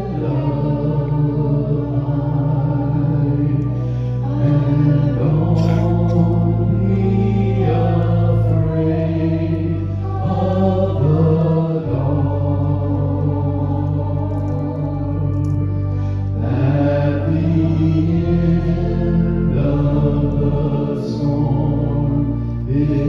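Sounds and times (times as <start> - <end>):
sustained low accompaniment: 0.0 - 23.0
two men singing a hymn: 0.0 - 23.0.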